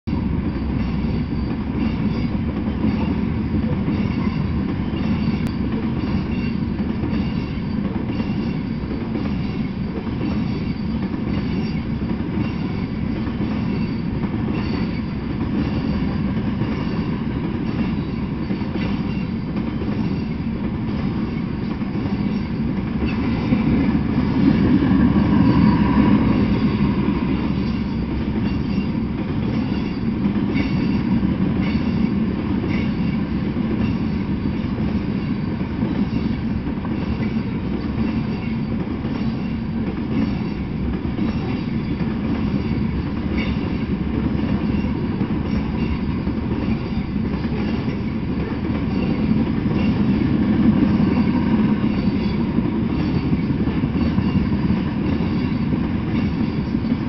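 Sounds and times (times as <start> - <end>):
freight train wheels on rails: 0.0 - 57.0.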